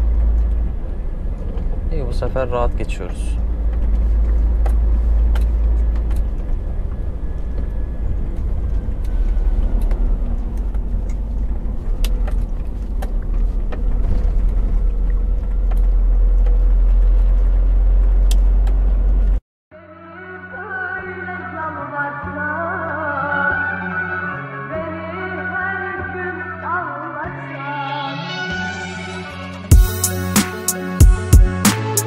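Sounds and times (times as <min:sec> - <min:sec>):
truck engine and road noise: 0:00.0 - 0:19.4, 0:21.5 - 0:32.0.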